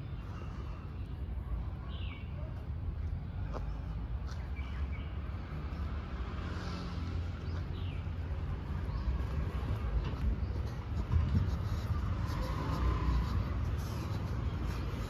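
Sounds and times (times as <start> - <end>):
motorbike traffic rumble: 0.0 - 15.0.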